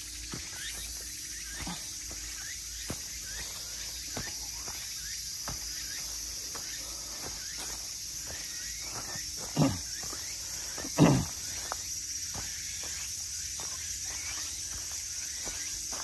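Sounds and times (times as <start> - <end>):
footsteps on dirt trail: 0.0 - 16.0
insects singing: 0.0 - 16.0.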